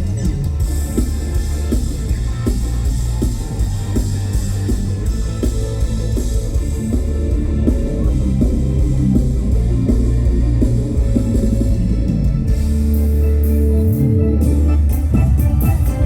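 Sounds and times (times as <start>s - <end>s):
rock band music: 0.0s - 16.0s.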